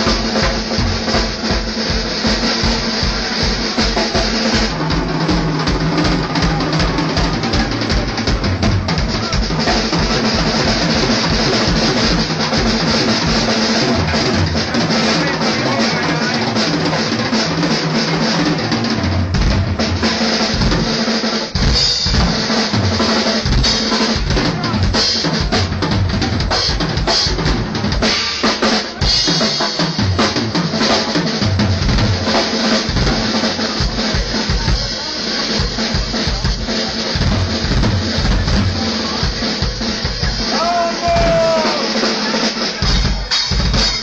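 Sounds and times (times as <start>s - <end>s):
drum kit solo: 0.0s - 44.0s.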